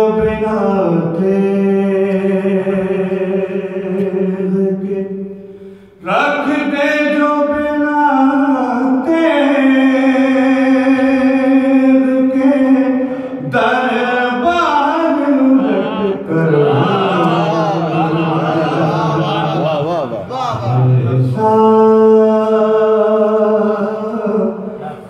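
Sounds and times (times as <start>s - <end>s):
man chanting: 0.0s - 5.2s, 6.0s - 25.0s.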